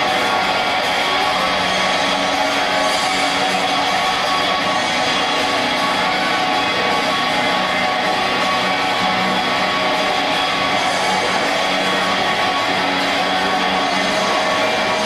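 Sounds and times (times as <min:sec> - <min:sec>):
strummed electric guitar music: 0:00.0 - 0:15.0.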